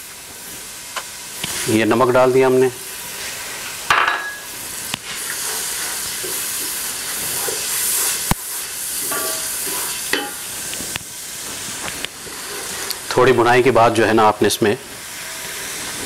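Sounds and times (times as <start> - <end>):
sizzling in hot oil: 0.0 - 16.0.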